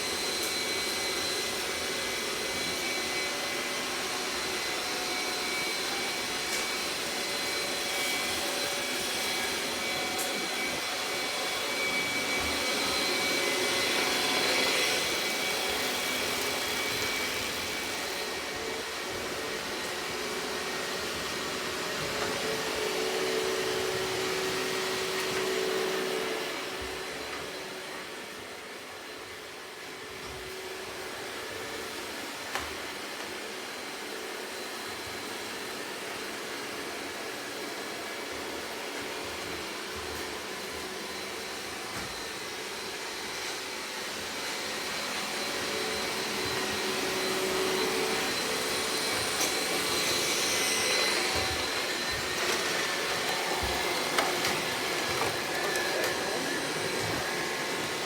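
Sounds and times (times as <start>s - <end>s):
robot vacuum cleaner whirring: 0.0s - 58.0s.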